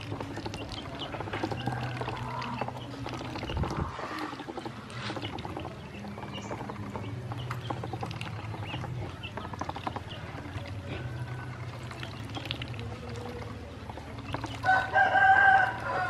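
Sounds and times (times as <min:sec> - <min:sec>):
ducklings peeping: 0:00.0 - 0:16.0
ducklings splashing in water: 0:00.0 - 0:16.0
steady low hum: 0:00.0 - 0:16.0.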